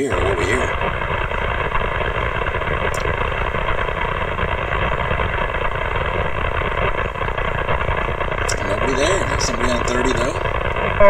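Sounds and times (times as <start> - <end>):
harsh radio static: 0.0 - 1.0, 3.0 - 11.0
faint steady tones: 0.0 - 11.0.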